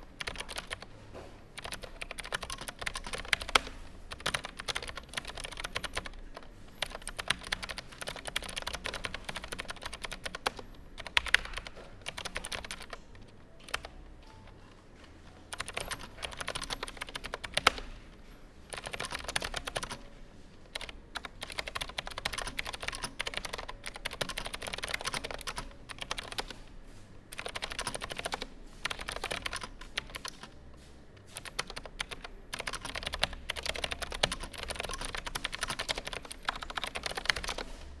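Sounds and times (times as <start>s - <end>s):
mechanical keyboard typing: 0.0s - 0.9s, 1.6s - 14.6s, 15.4s - 18.0s, 18.7s - 26.7s, 27.3s - 30.6s, 31.2s - 38.0s.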